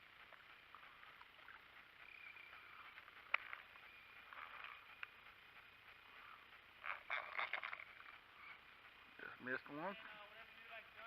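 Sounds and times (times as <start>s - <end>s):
faint creek background: 0.0s - 11.0s.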